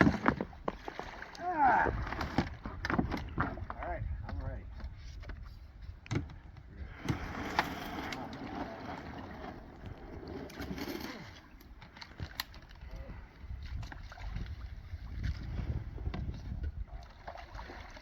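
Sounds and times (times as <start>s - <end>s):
paddle swishing through water: 0.0s - 18.0s
wind rumbling on microphone: 1.4s - 18.0s.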